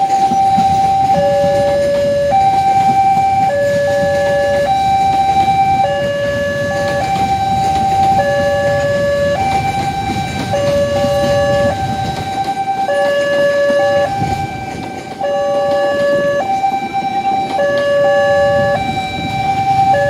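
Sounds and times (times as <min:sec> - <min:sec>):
train coaches rumbling: 0:00.0 - 0:20.0
two-tone crossing warning bell: 0:00.0 - 0:20.0.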